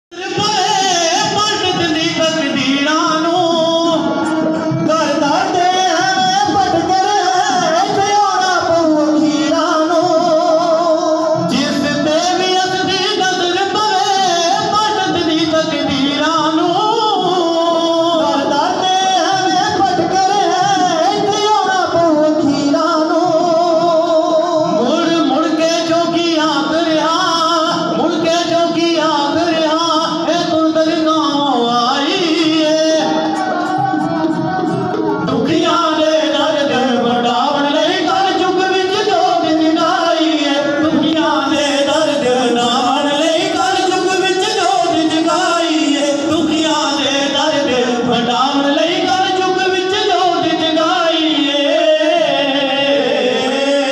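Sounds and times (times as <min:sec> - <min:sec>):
sarangi playing: 0:00.1 - 0:53.9
men singing: 0:00.2 - 0:53.9.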